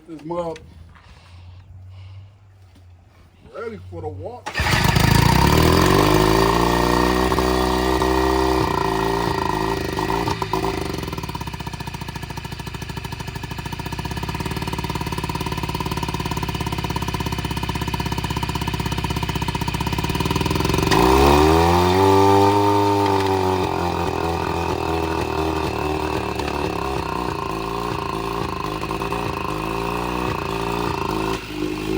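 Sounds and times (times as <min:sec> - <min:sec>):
outboard motor running rough: 0:04.6 - 0:31.9.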